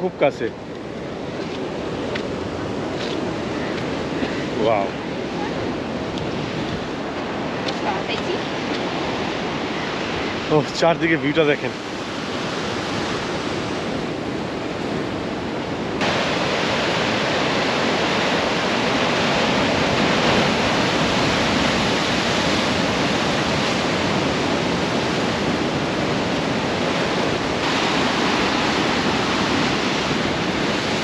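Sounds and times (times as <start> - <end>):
ocean surf rushing: 0.0 - 31.0
wind: 0.0 - 31.0.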